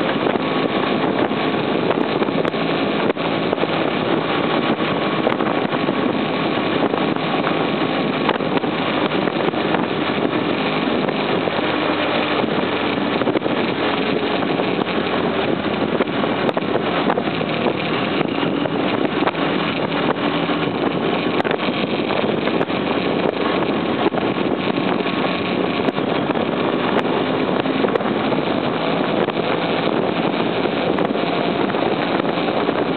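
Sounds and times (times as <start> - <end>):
motorcycle engine running: 0.0 - 32.9
wind rushing over microphone: 0.0 - 32.9.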